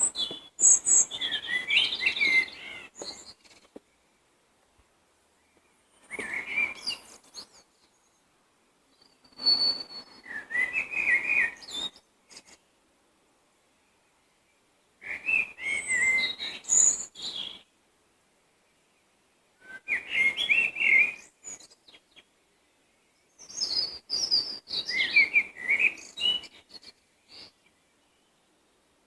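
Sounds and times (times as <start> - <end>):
songbird singing: 0.0 - 17.8, 18.4 - 29.0.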